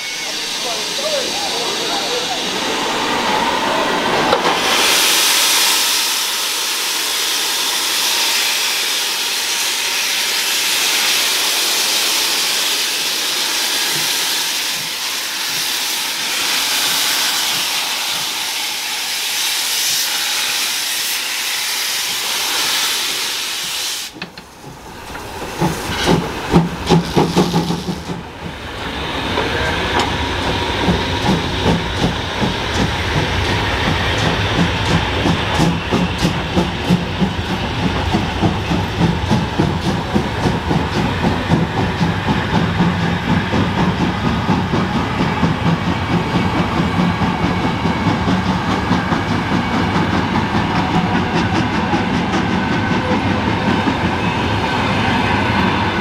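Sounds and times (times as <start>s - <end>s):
steam locomotive hissing: 0.0s - 56.0s
train rolling: 0.0s - 56.0s.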